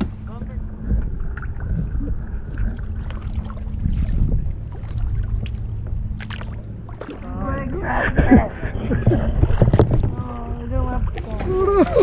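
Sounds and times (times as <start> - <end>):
water sloshing around kayak: 0.0 - 12.0
wind rumbling on microphone: 0.0 - 12.0.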